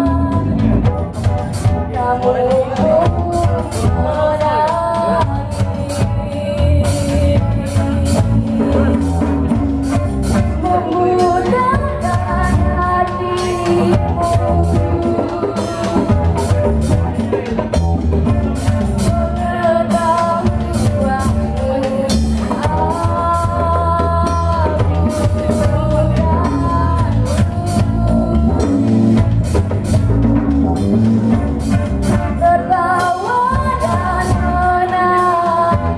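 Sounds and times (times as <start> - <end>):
woman singing: 0.0 - 17.5, 18.6 - 29.6, 32.2 - 35.9
bass guitar: 0.0 - 35.9
drum kit: 0.0 - 35.9
guitar: 0.0 - 35.9
hand drum: 0.0 - 35.9.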